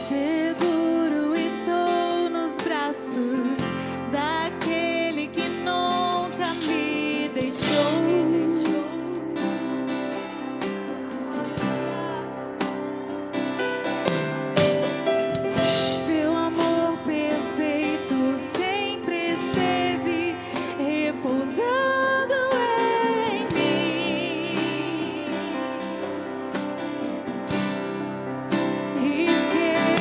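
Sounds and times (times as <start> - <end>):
person singing wordless melody: 0.0 - 13.6, 15.5 - 26.4, 27.5 - 30.0.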